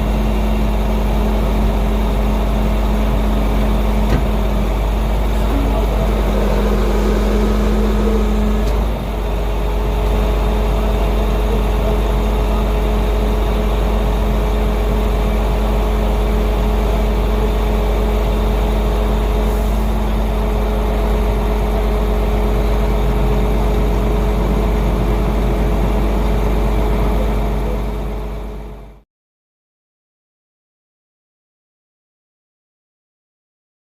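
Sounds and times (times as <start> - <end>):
large vehicle engine rumbling: 0.0 - 29.0.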